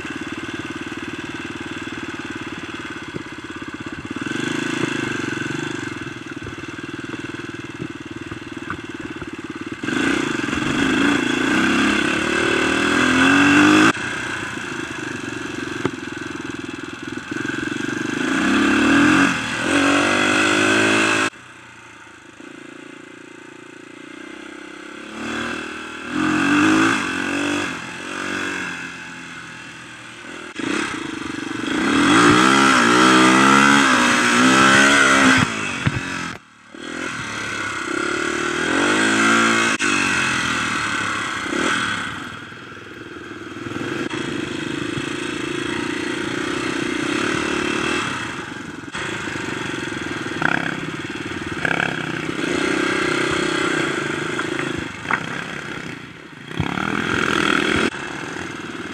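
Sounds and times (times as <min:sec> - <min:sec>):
dirt bike engine revving: 0:00.0 - 0:21.4, 0:22.3 - 0:58.9.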